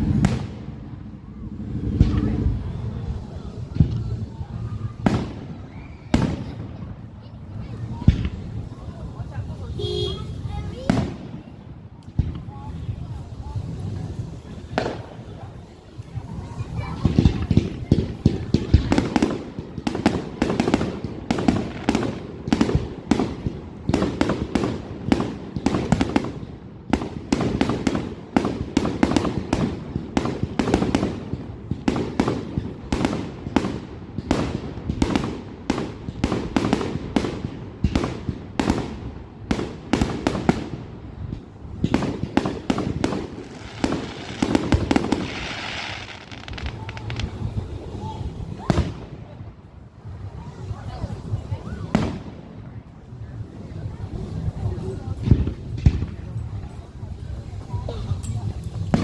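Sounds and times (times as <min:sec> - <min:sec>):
fireworks booming bursts: 0:00.0 - 0:56.8
crackling hiss: 0:09.7 - 0:59.0.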